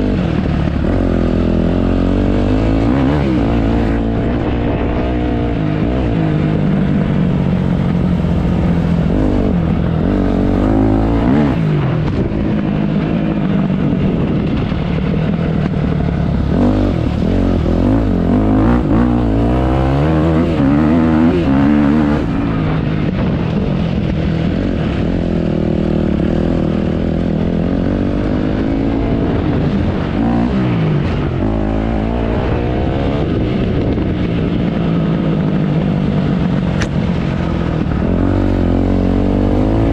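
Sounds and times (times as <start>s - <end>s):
dirt bike engine revving: 0.0s - 23.3s, 24.1s - 39.9s.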